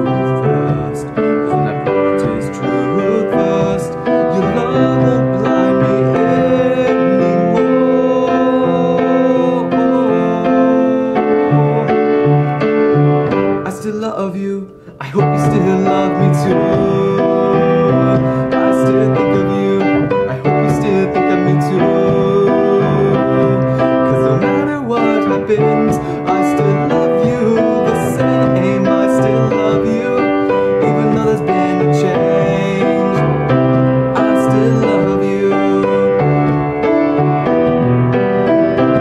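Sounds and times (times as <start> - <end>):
man singing: 0.0 - 39.0
piano chords and melody: 0.0 - 39.0.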